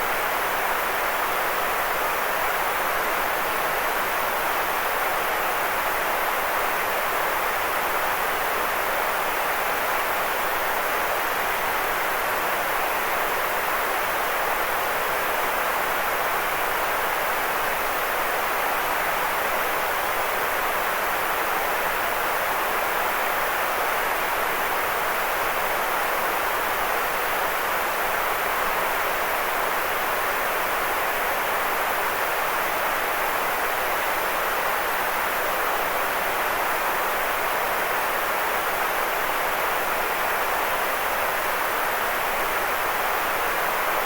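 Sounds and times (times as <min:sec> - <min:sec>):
white noise hiss: 0:00.0 - 0:44.0.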